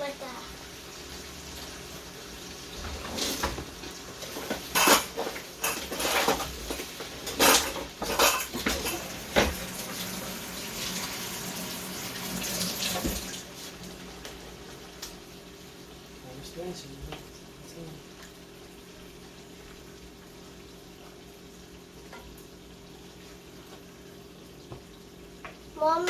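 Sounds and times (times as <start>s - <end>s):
oil sizzling in a pan: 0.0s - 2.8s, 3.5s - 16.2s, 18.0s - 26.0s.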